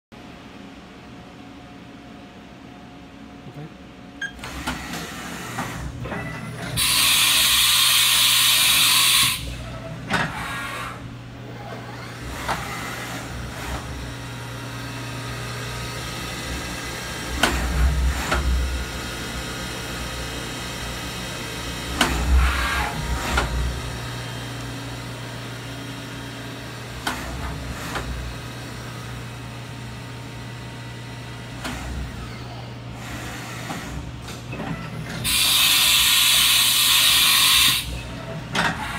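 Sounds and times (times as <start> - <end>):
milling machine electrical hum: 0.2 - 38.9.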